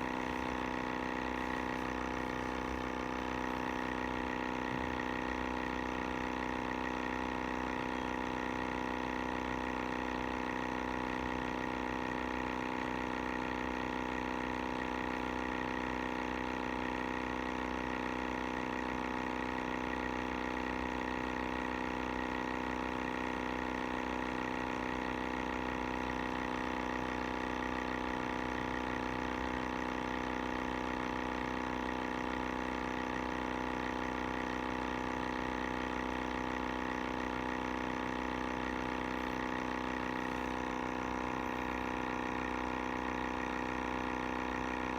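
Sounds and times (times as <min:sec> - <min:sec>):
air sampler pump motor drone: 0:00.0 - 0:44.9.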